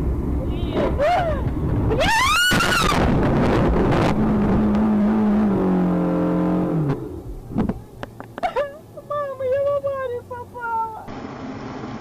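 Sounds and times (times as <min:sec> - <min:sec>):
car engine and road noise: 0:00.0 - 0:12.0
low engine-like drone: 0:00.0 - 0:12.0.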